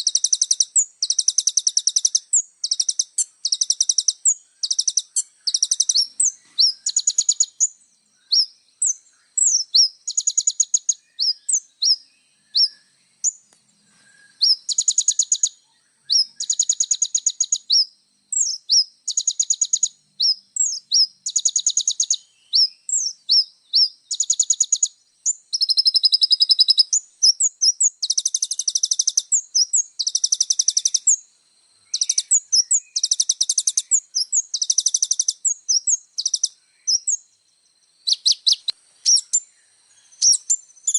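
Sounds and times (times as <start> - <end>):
sharp bird chirps: 0.0 - 40.9
sunbird trilling: 0.0 - 40.9.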